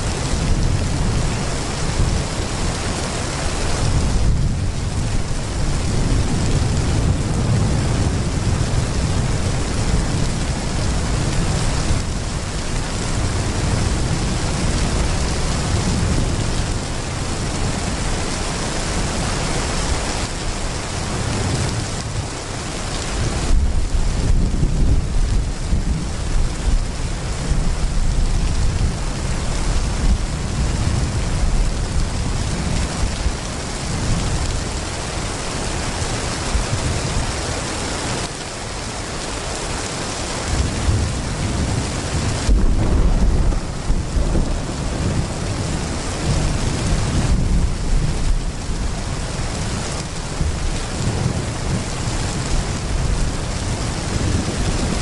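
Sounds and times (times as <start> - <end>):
thunder rumbling: 0.0 - 22.2, 23.1 - 34.8, 40.5 - 55.0
heavy rain pouring: 0.0 - 55.0.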